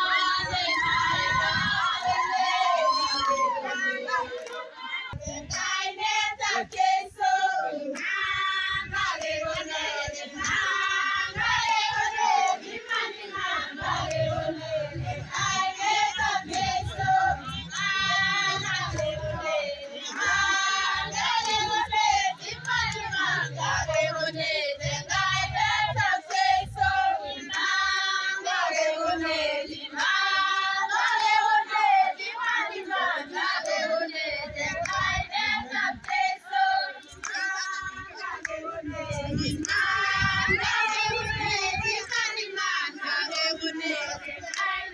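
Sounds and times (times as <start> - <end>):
women singing together: 0.0 - 44.9.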